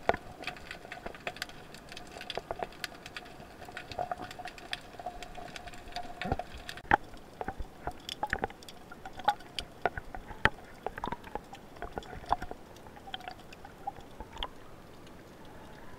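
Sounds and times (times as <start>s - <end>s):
faint steady hum: 0.0s - 15.9s
underwater clicks and crackles: 0.0s - 15.9s.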